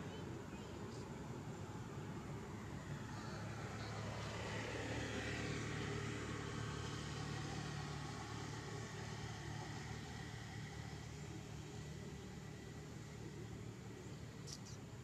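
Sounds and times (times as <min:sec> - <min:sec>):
vehicle engine passing: 0:00.9 - 0:14.8.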